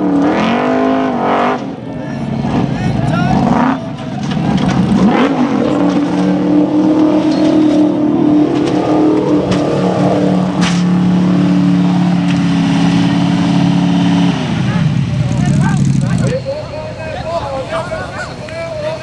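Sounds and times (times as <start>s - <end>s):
buggy engine revving: 0.0s - 19.0s.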